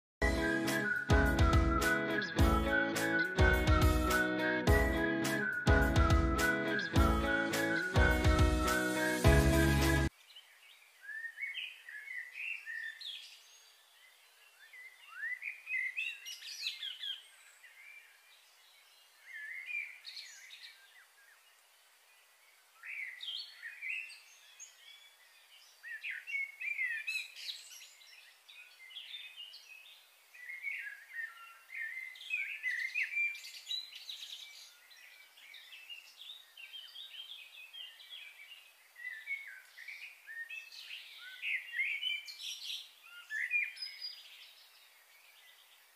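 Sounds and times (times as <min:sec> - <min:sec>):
songbirds chirping: 0:00.2 - 0:45.9.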